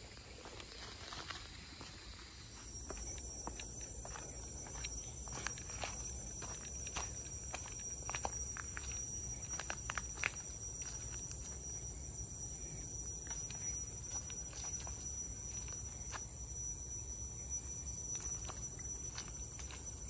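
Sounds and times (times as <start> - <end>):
footsteps on trail: 0.0 - 11.8, 12.9 - 16.3, 18.0 - 20.0
forest insects droning: 0.0 - 20.0.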